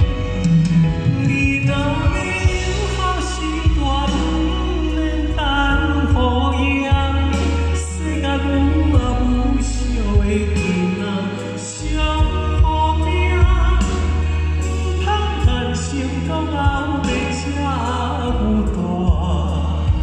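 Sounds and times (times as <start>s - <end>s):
man singing into a microphone: 0.0s - 20.0s
orchestral accompaniment: 0.0s - 20.0s.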